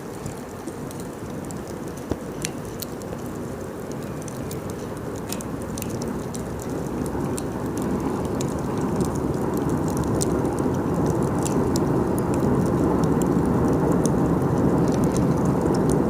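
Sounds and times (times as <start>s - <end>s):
burning wood popping and crackling: 0.0s - 16.0s
flames rushing: 0.0s - 16.0s.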